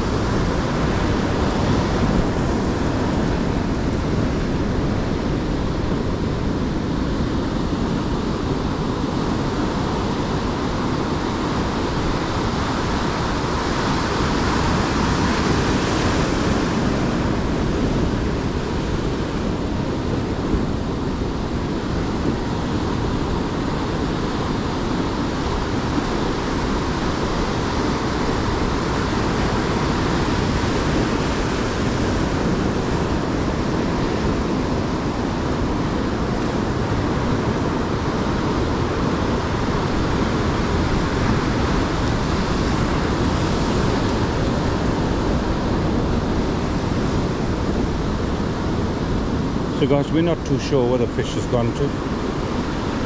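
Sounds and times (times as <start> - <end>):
surf washing over rocks: 0.0 - 53.0.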